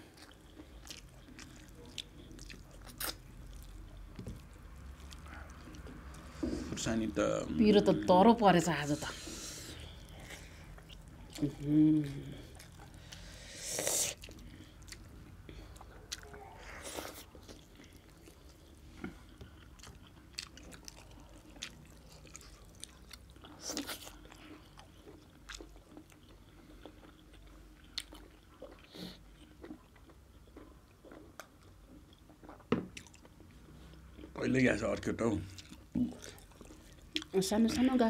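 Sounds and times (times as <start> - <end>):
chewing and eating: 0.0 - 7.0, 9.2 - 38.0
low steady hum: 0.0 - 38.0.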